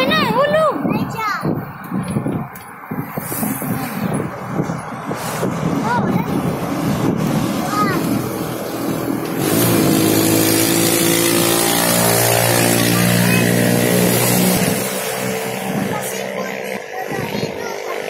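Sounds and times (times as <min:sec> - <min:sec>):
vehicle engine running: 0:03.3 - 0:18.0.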